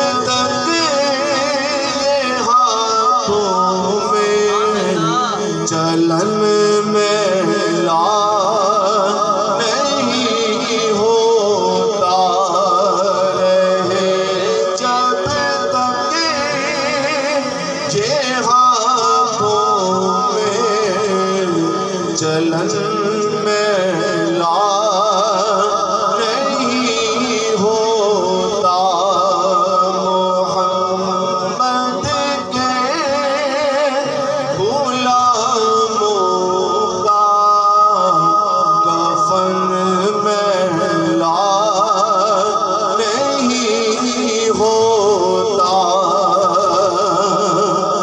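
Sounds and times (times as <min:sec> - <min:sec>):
man singing into a microphone: 0:00.0 - 0:48.0.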